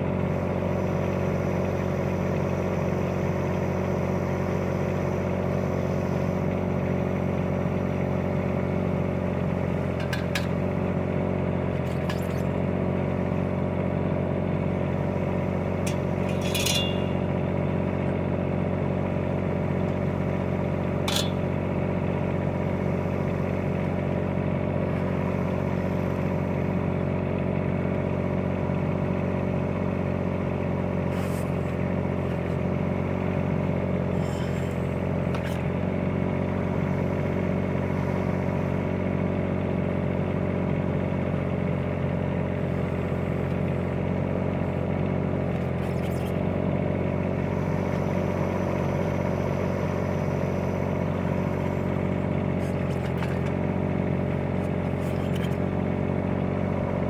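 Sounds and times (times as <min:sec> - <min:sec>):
mini excavator diesel engine running: 0:00.0 - 0:57.0.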